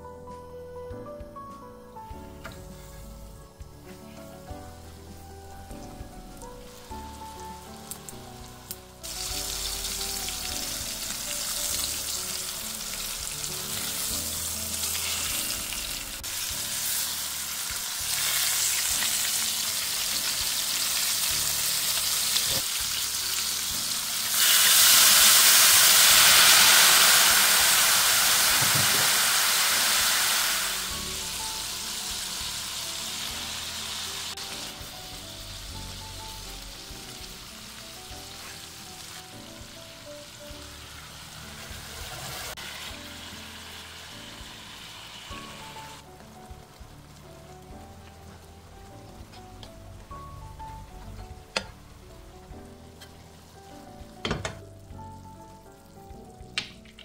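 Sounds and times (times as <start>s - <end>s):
soft background music: 0.0s - 57.0s
meat sizzling in hot oil: 4.5s - 57.0s.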